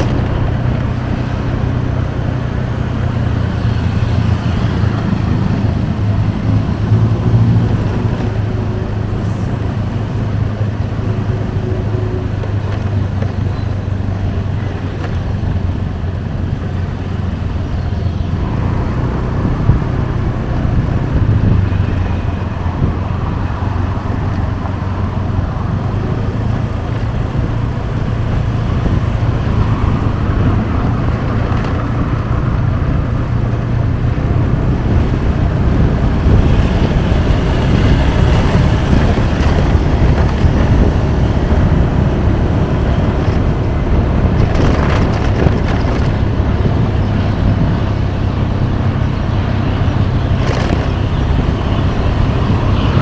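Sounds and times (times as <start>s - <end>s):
road traffic passing: 0.0s - 53.0s.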